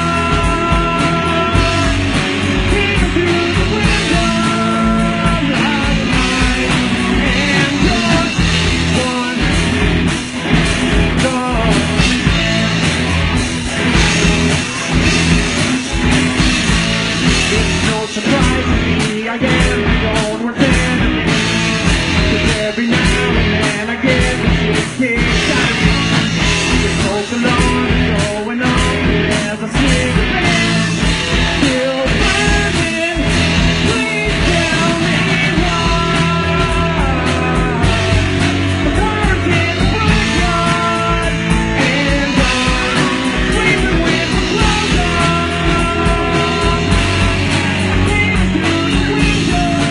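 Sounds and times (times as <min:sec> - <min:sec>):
drum beat: 0:00.0 - 0:49.9
electric guitar: 0:00.0 - 0:49.9
person singing: 0:00.0 - 0:49.9.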